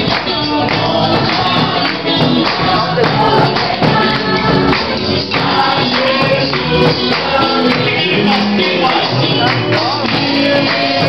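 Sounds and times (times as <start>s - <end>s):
group of voices singing: 0.0s - 11.0s
hand-clapping: 0.0s - 11.0s
percussion beat: 0.0s - 11.0s.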